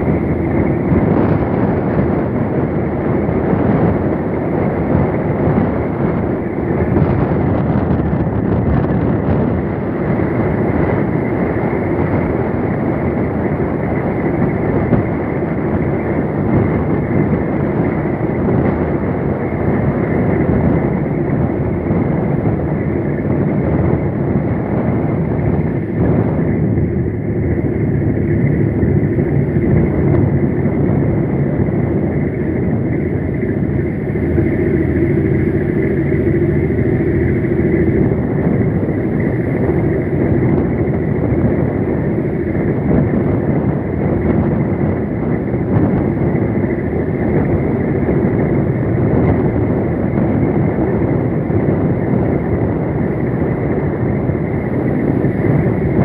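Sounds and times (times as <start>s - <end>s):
low rumble of vehicle engine: 0.0s - 56.0s.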